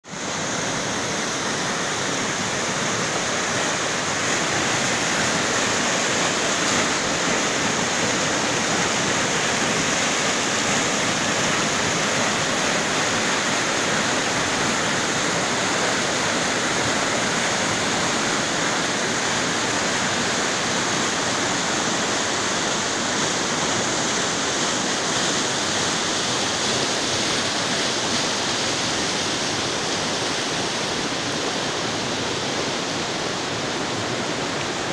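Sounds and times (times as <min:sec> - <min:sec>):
river rushing over boulders: 0:00.0 - 0:34.9.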